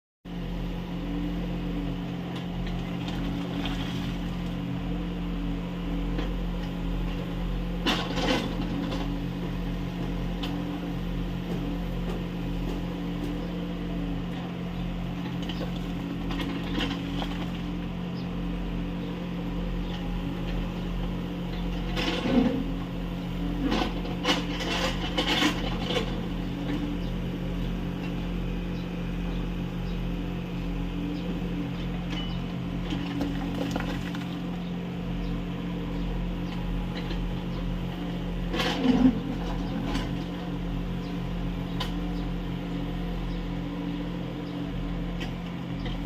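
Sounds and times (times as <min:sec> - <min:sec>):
excavator diesel engine running: 0:00.3 - 0:46.0.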